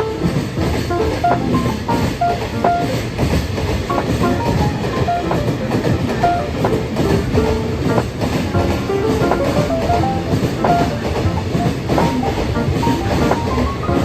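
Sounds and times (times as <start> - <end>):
freight train rumbling on track: 0.0 - 14.0.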